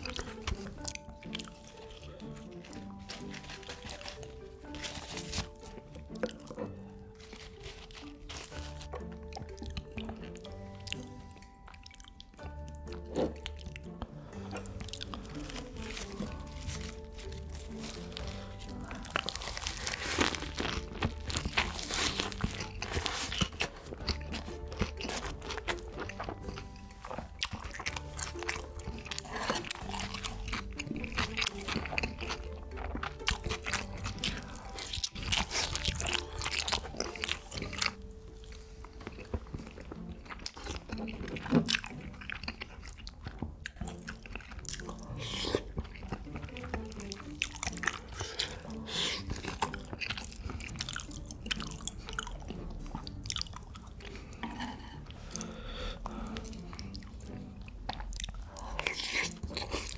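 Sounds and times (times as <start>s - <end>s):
person chewing with crunches: 0.0s - 59.9s
soft background music: 0.0s - 59.9s.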